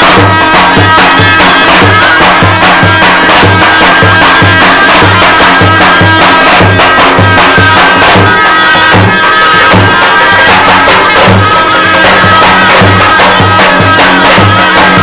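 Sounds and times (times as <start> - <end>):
bass drum beats: 0.0 - 15.0
piercing reed melody: 0.0 - 15.0.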